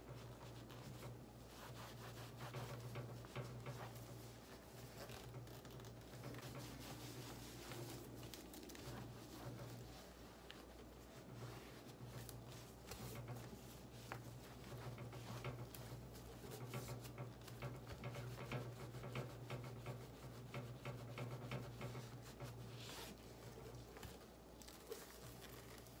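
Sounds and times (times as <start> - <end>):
cloth wiping an amplifier: 0.0 - 26.0
small taps and rustles: 0.0 - 26.0.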